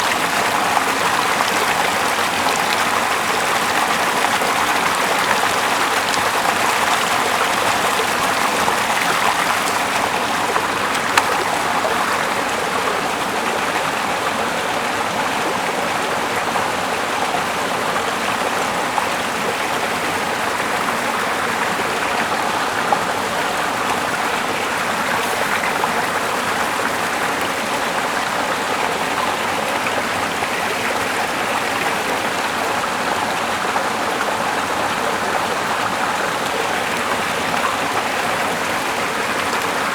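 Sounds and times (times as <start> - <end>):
small river flowing: 0.0 - 39.9.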